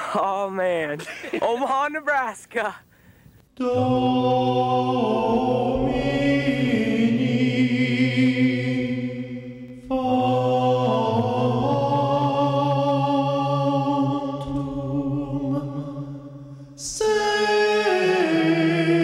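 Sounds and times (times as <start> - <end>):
voices singing a slow chant: 3.6 - 19.0.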